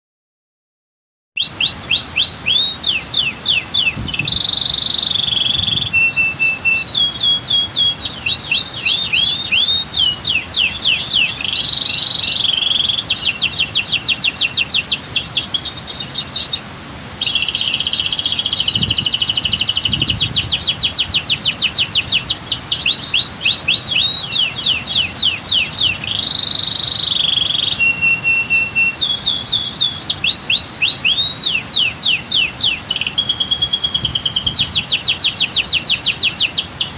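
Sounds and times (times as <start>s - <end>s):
canary singing: 1.4s - 16.6s, 17.2s - 36.9s
waterfall rushing: 1.4s - 36.9s.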